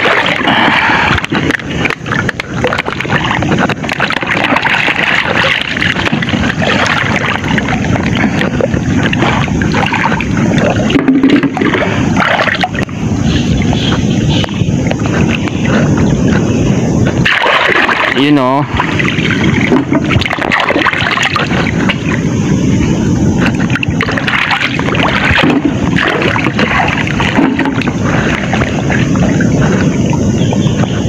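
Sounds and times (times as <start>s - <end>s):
sharp water splashes: 0.0s - 16.4s, 17.0s - 22.6s, 23.3s - 30.2s
rush of moving water: 0.0s - 31.0s
water sloshing around wading bodies: 0.0s - 31.0s.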